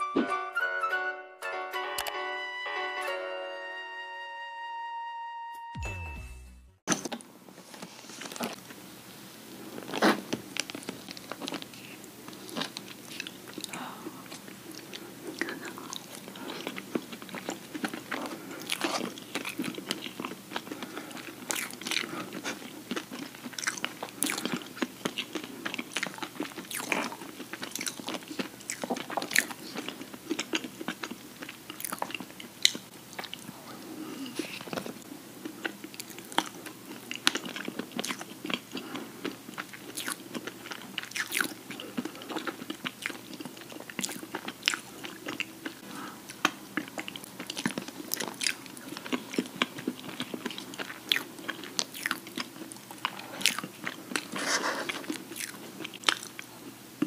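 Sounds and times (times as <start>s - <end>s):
close chewing and crunching: 9.5s - 57.0s.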